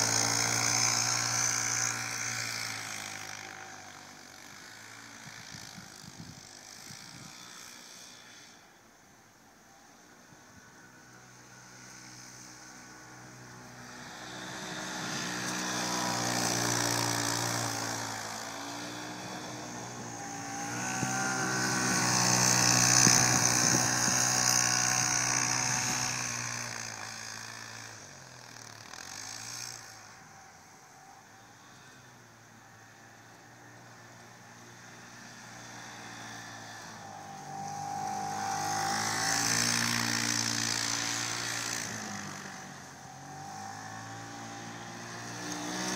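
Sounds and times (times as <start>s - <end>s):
utility vehicle engine revving: 0.0s - 8.6s, 10.6s - 45.9s.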